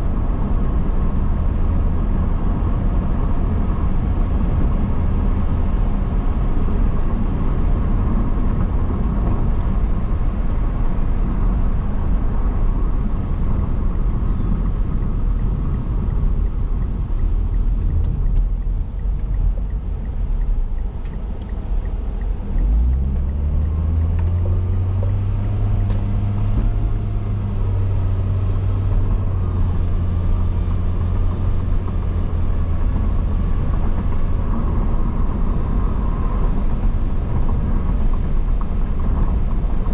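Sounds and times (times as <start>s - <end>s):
car engine drone: 0.0s - 39.9s
road and tyre rumble: 0.0s - 39.9s.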